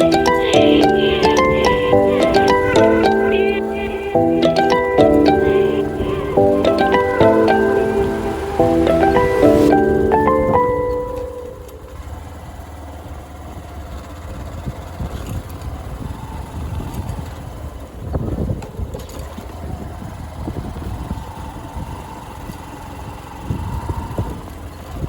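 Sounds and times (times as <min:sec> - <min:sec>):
road noise: 0:00.0 - 0:24.8.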